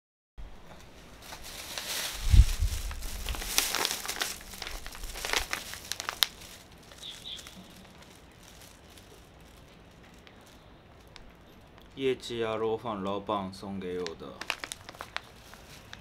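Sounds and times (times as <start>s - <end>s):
plastic bag crinkling: 1.1s - 12.0s, 13.9s - 16.0s.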